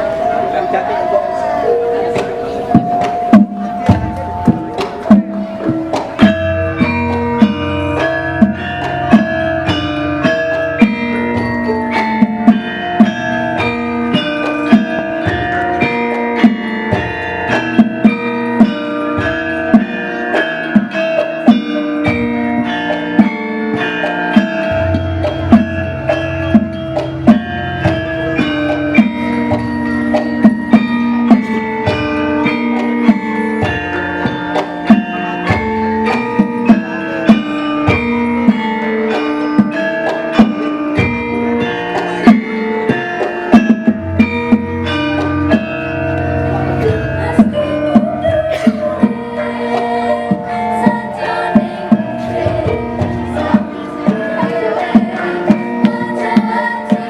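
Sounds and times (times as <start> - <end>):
gamelan ensemble playing: 0.0 - 57.0.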